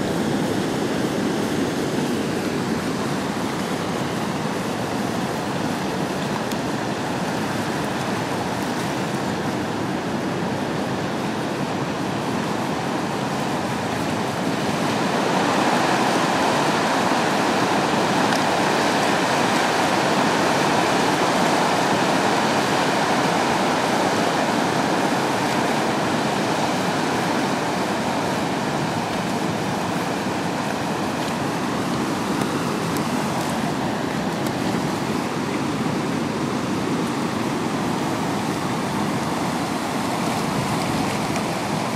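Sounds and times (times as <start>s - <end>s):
whitewater rushing: 0.0s - 41.9s.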